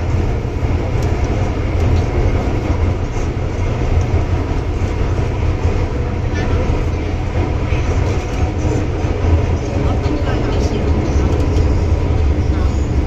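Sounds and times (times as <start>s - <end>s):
train cabin rumble in tunnel: 0.0s - 13.0s.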